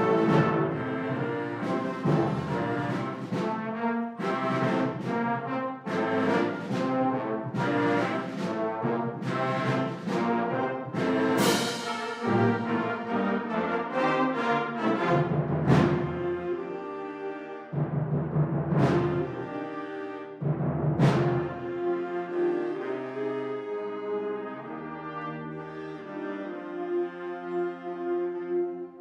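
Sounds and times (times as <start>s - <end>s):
wind ensemble playing: 0.0s - 29.0s.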